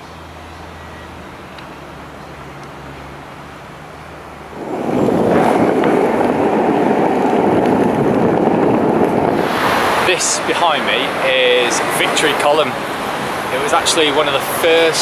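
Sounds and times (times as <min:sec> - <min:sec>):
skateboard wheels rolling on asphalt: 0:01.5 - 0:14.3.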